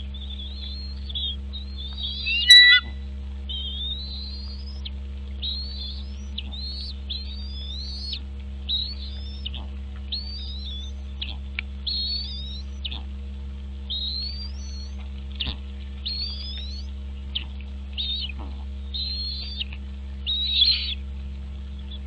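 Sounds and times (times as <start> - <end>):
steady low hum: 0.0 - 22.0
bird whistling rising calls: 0.1 - 13.0, 13.9 - 15.0, 16.0 - 16.9, 18.0 - 21.0.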